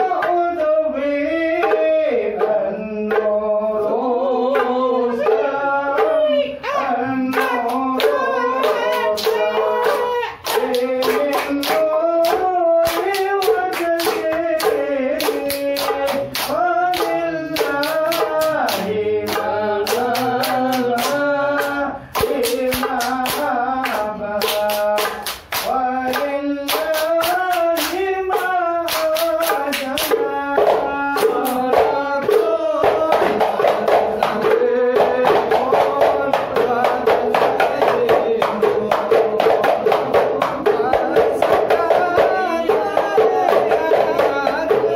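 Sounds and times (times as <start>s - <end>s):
men chanting in unison: 0.0s - 44.9s
hand claps: 7.3s - 44.9s.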